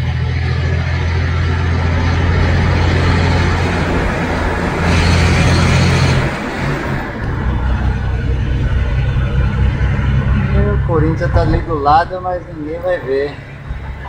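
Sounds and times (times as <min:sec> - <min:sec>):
car engine and exhaust rumbling: 0:00.0 - 0:14.0.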